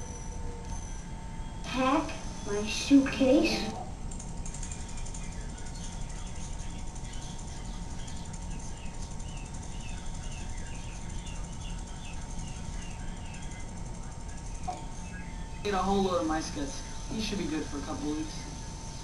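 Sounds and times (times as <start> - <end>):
video recorder whirring: 0.0 - 19.0.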